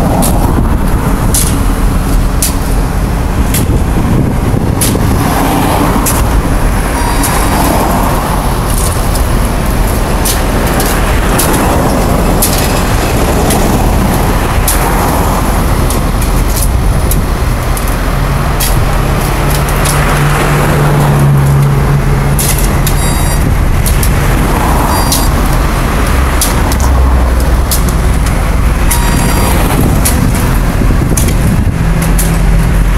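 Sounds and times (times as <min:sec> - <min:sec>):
heavy engine hum: 0:00.0 - 0:32.9
road traffic passing: 0:00.0 - 0:32.9.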